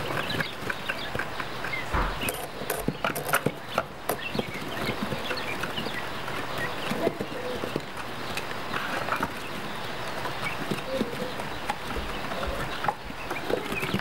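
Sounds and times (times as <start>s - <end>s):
chicks peeping: 0.0s - 14.0s
pecking taps and rustling: 0.0s - 14.0s.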